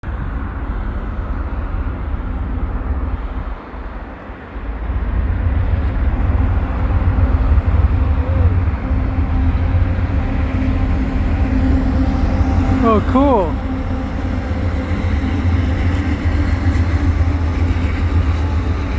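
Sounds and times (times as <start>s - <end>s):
diesel locomotive engine drone: 0.0s - 18.9s.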